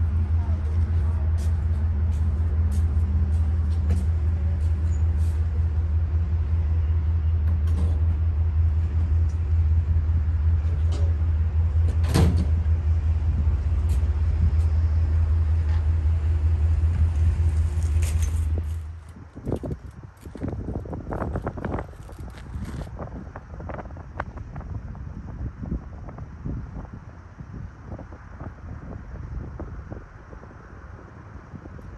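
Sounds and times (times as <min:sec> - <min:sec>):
train idling hum: 0:00.0 - 0:31.9.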